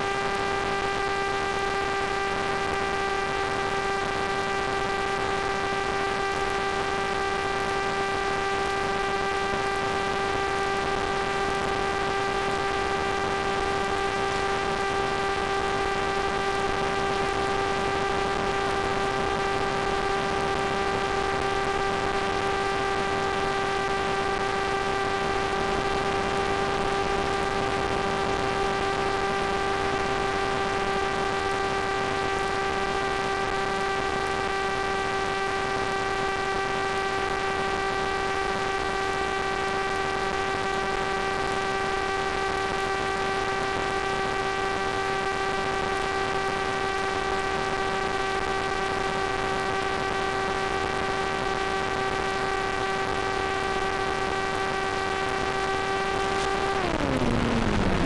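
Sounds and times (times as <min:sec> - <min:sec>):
electrical buzz: 0:00.0 - 0:58.0.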